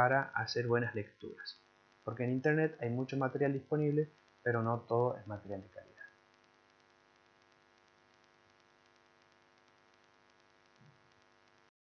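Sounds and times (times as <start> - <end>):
faint electrical hum: 0.0 - 11.7.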